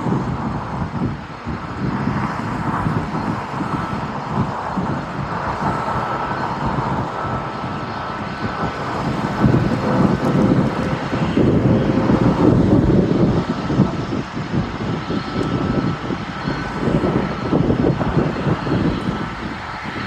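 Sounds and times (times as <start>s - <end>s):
jet engines rumbling with whine: 0.0s - 20.0s.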